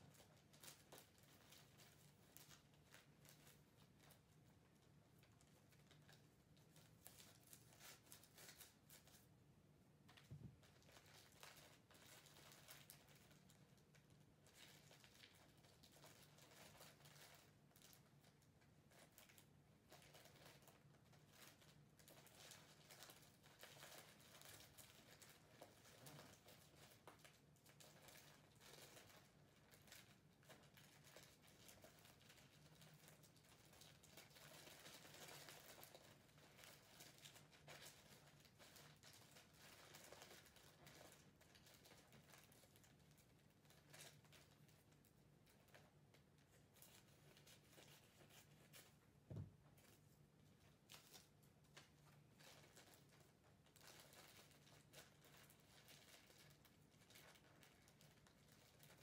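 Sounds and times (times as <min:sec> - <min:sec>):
small clicks and crackles: 0:00.0 - 0:09.4, 0:10.0 - 0:59.0
wrapping paper crinkling: 0:00.0 - 0:09.4, 0:10.0 - 0:59.0.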